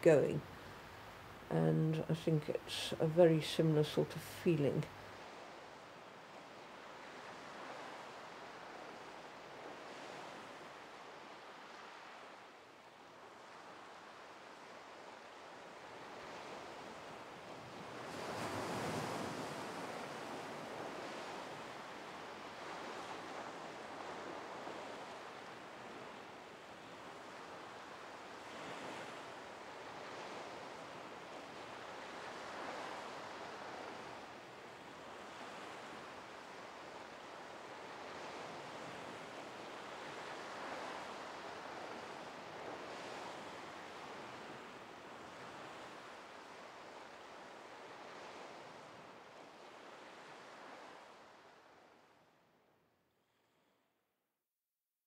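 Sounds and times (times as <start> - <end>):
sea surf washing onto beach: 3.8 - 51.8.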